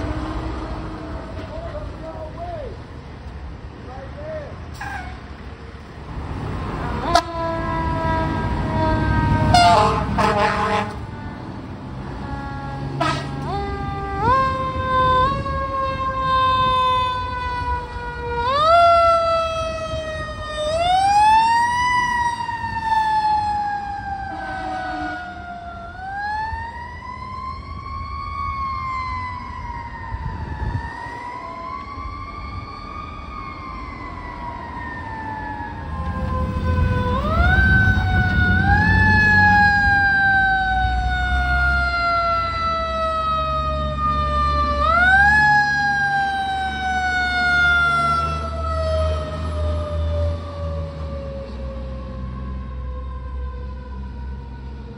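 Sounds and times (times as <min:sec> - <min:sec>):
fire truck sirens wailing: 0:00.0 - 0:03.3, 0:05.8 - 0:54.9.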